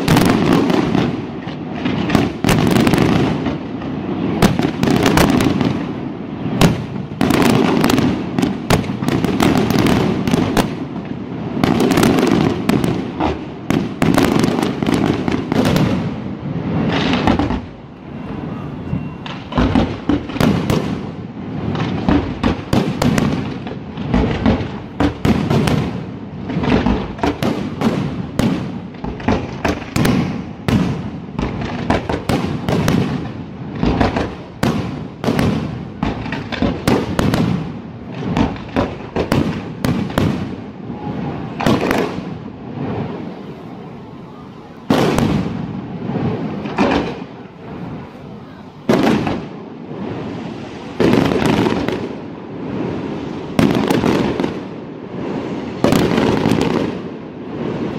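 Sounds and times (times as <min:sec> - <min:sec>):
fireworks bursting: 0:00.0 - 0:57.9.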